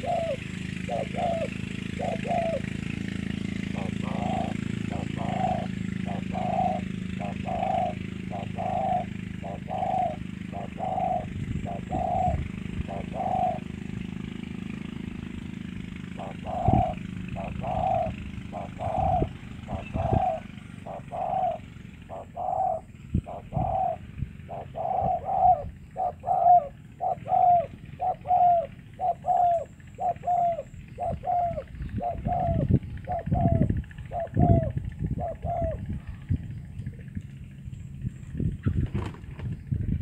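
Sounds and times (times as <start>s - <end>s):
dove cooing: 0.0s - 14.4s, 15.6s - 37.2s.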